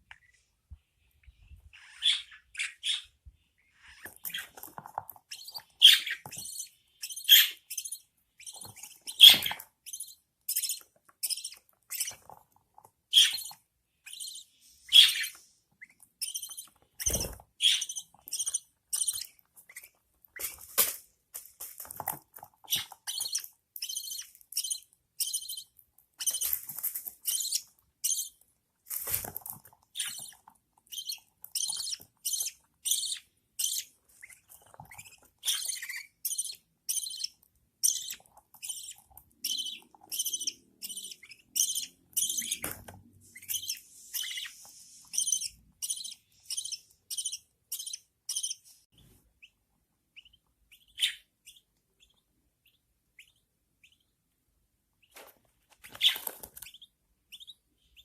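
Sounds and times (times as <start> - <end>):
chicks cheeping: 1.1 - 12.4, 13.0 - 20.8, 22.0 - 28.4, 29.1 - 54.2, 55.0 - 58.0.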